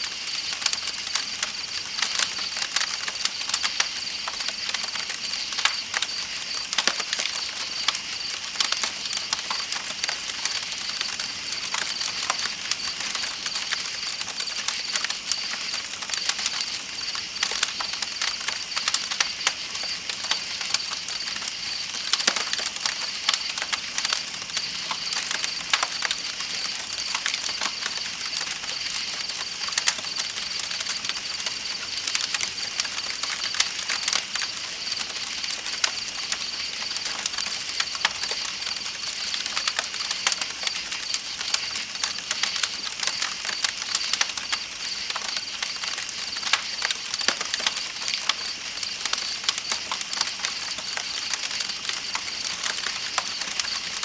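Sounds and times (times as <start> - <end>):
night insects chirring: 0.0 - 54.0
campfire crackling and popping: 0.1 - 54.0.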